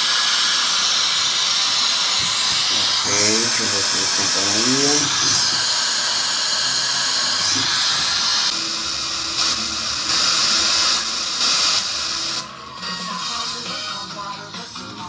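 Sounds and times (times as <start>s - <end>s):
radio static hissing: 0.0s - 15.0s.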